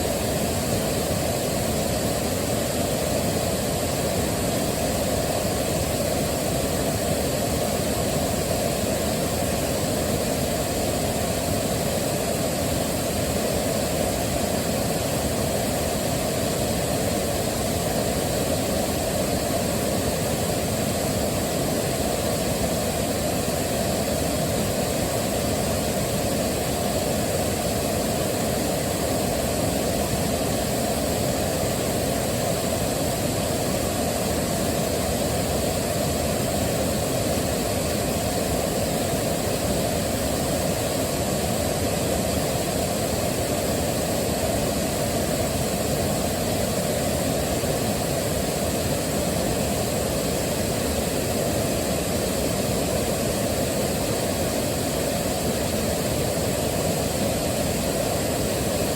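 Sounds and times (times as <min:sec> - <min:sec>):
waterfall rushing water: 0:00.0 - 0:58.9.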